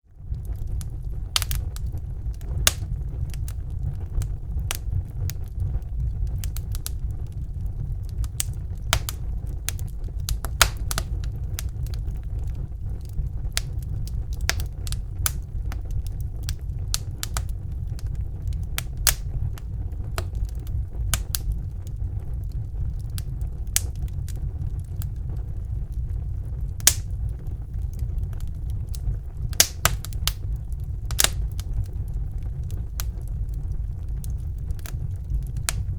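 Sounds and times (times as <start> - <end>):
burning logs crackling and popping: 0.0 - 35.9
fire flames rumbling: 0.0 - 35.9.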